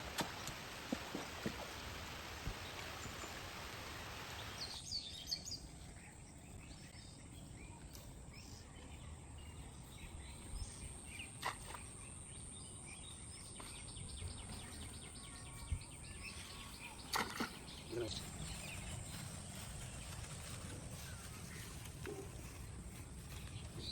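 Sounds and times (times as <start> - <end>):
steady background hiss: 0.0 - 23.9
bird chirps: 2.5 - 23.9.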